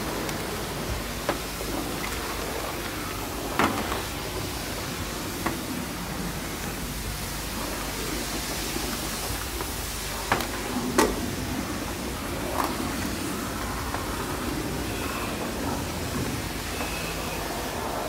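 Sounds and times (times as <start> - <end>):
car wash spray hissing: 0.0 - 18.0.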